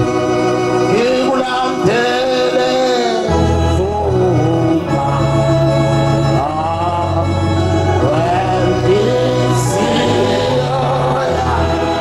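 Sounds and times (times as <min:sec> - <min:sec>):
sustained organ chords: 0:00.0 - 0:12.0
man singing a hymn: 0:00.8 - 0:12.0.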